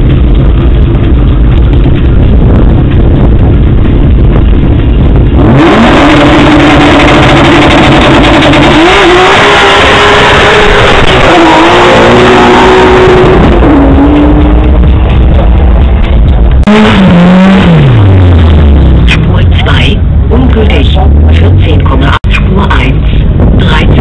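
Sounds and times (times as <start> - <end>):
drag car engine accelerating: 0.0 - 22.3.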